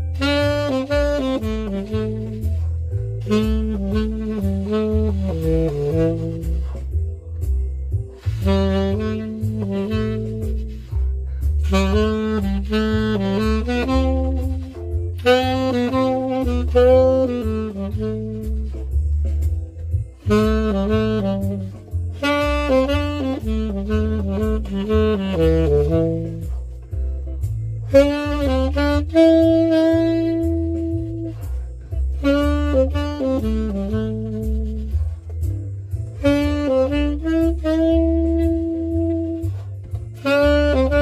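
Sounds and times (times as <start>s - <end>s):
tenor saxophone improvising: 0.0s - 7.2s, 8.1s - 41.0s
bass line: 0.0s - 41.0s
light percussion: 0.0s - 41.0s.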